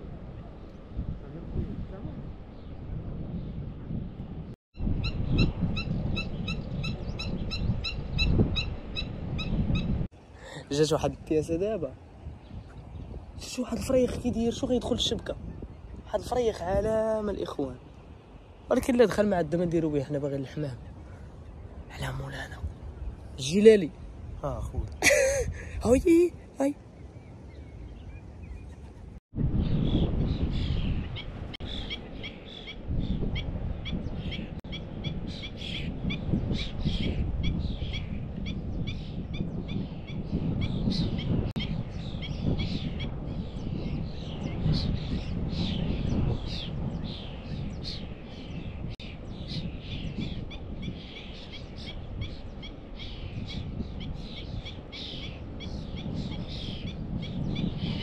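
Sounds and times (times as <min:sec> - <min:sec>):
birds chirping: 0:02.2 - 0:58.0.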